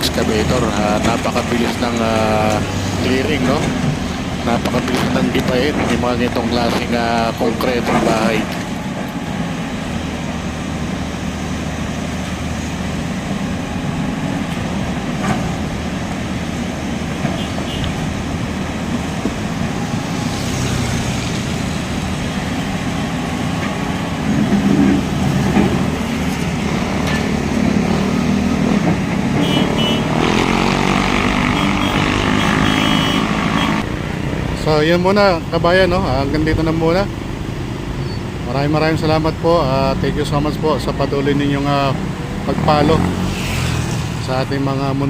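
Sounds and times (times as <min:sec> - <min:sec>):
excavator diesel engine: 0:00.0 - 0:45.0.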